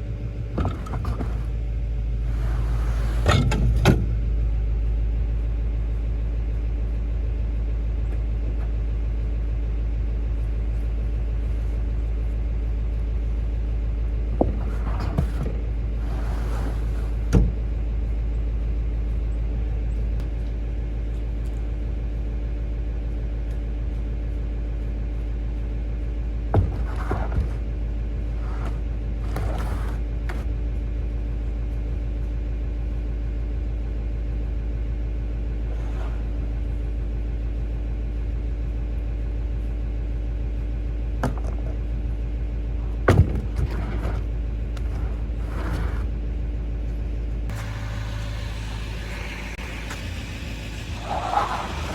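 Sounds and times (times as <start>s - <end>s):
engine running with deep rumble: 0.0s - 51.9s.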